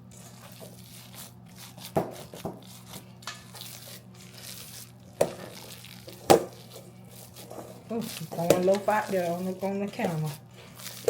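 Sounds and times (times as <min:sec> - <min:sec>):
low steady hum: 0:00.0 - 0:11.0
meat mixture squishing: 0:00.0 - 0:11.0
plastic rubbing and crinkling: 0:00.2 - 0:11.0.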